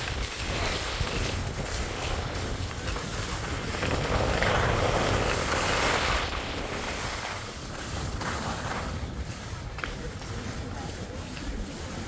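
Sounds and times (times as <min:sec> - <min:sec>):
skis scraping over snow: 0:00.0 - 0:12.0
wind rumbling on microphone: 0:00.0 - 0:12.0.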